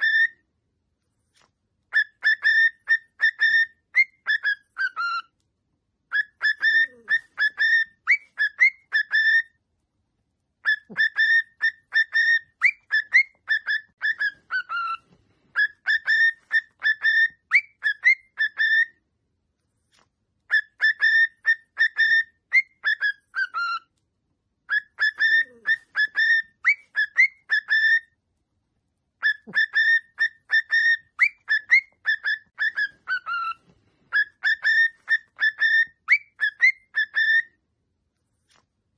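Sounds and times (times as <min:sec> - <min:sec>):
cockatiel whistling: 0:00.0 - 0:00.4, 0:01.9 - 0:05.4, 0:06.1 - 0:09.6, 0:10.6 - 0:19.0, 0:20.5 - 0:24.0, 0:24.6 - 0:28.2, 0:29.2 - 0:37.6.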